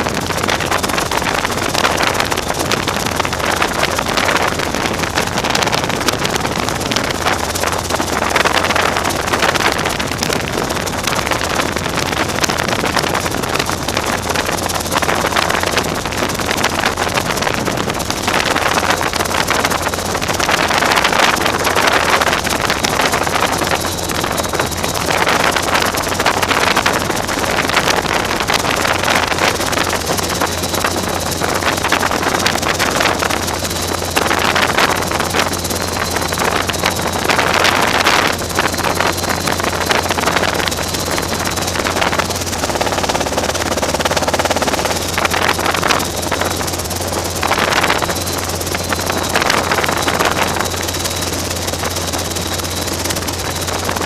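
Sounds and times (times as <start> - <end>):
helicopter engine and rotor drone: 0.0 - 54.0
high whine: 0.0 - 54.0
wind buffeting microphone: 0.0 - 54.0.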